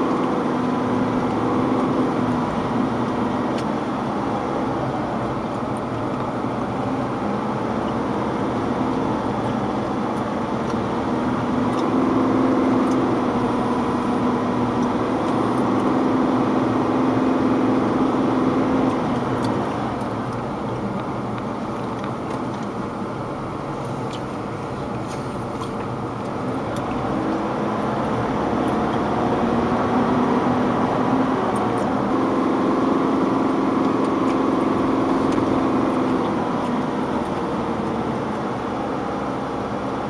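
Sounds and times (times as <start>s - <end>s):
vehicle engine from inside cabin: 0.0s - 40.0s.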